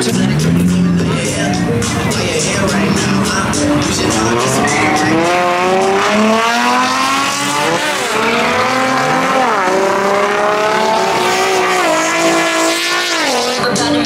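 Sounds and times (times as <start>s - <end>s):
car engine accelerating through gears: 0.0s - 14.0s.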